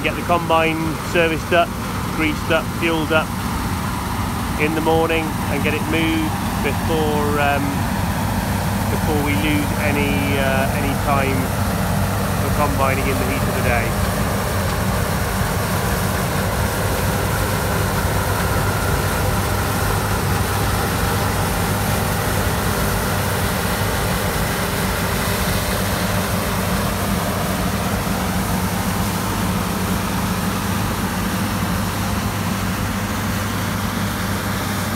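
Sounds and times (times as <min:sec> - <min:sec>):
combine harvester engine hum: 0:00.0 - 0:34.9
harvester machinery noise: 0:00.0 - 0:34.9.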